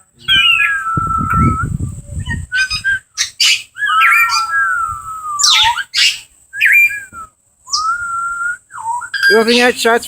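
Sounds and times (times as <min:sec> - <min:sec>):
parrots squawking and whistling: 0:00.2 - 0:09.8.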